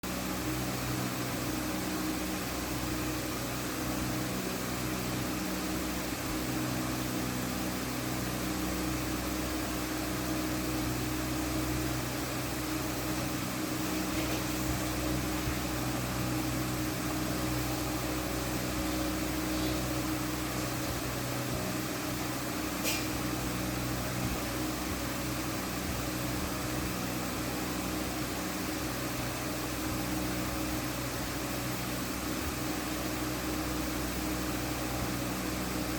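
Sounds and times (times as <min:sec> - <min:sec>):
electric fan running: 0:00.0 - 0:35.9.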